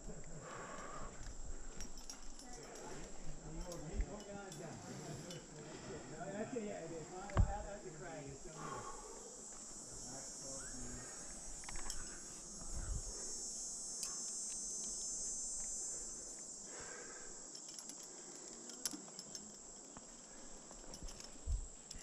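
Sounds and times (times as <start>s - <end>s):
climbing gear clinking: 0.0s - 6.3s, 9.4s - 22.0s
high-pitched insect chorus: 0.0s - 22.0s.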